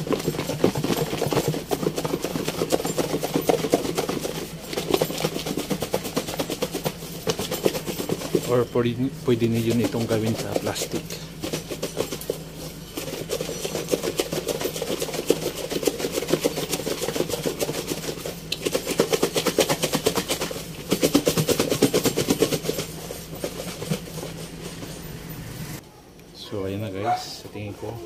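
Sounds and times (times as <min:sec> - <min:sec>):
food rattling in shaken plastic tub: 0:00.0 - 0:25.0.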